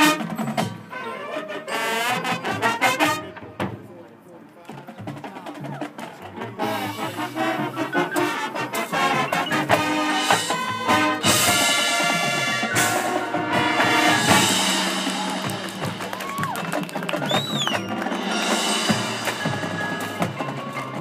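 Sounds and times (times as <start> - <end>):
marching band playing brass: 0.0 - 3.8, 5.1 - 21.0.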